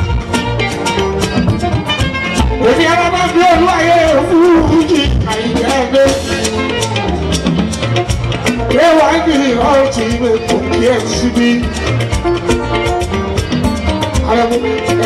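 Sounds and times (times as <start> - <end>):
bass guitar: 0.0 - 15.0
drums and hand percussion: 0.0 - 15.0
electric guitar: 0.0 - 15.0
person singing: 2.5 - 15.0.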